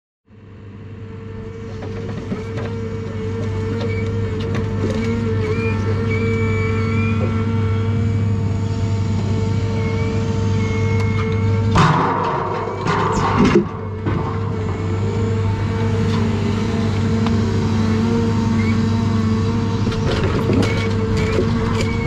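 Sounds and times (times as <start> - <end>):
diesel engine hum: 0.3 - 22.0
hydraulic whine: 0.3 - 22.0.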